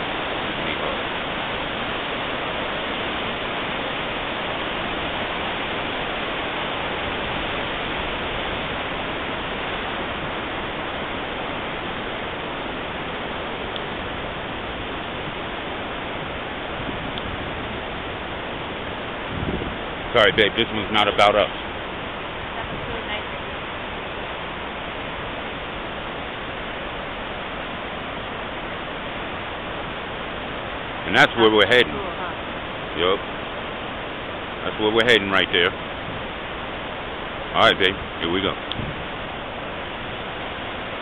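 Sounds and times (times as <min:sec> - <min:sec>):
waterfall rushing: 0:00.0 - 0:41.0
white water: 0:00.0 - 0:41.0.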